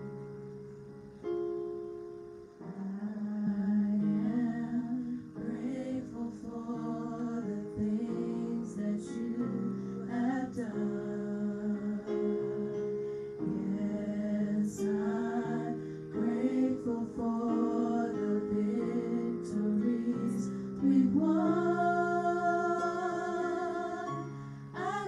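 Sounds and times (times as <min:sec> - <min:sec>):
person singing: 0:02.6 - 0:25.0.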